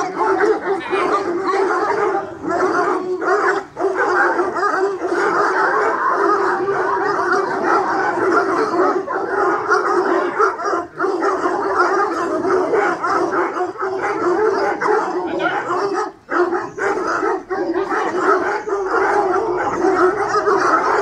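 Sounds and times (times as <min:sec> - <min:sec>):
pack of hounds baying and yelping: 0:00.0 - 0:21.0.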